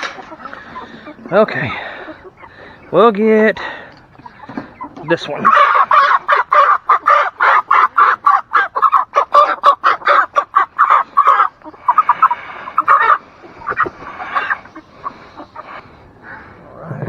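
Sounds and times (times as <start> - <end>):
chicken squawking: 0.0 - 3.0, 4.1 - 16.6.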